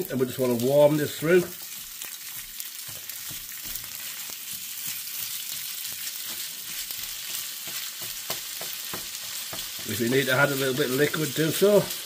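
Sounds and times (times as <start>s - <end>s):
chilli sizzling in skillet: 0.0s - 12.0s
spatula scraping and tapping: 1.4s - 11.2s.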